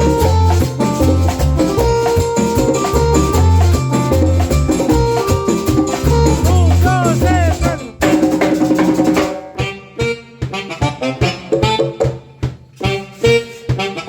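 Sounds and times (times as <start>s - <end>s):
band playing latin dance music: 0.0s - 14.0s.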